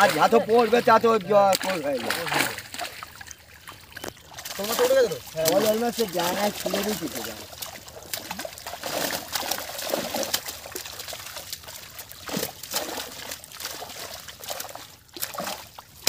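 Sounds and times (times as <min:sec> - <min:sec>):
water trickling: 0:00.0 - 0:16.0
fish splashing in net: 0:01.5 - 0:16.0.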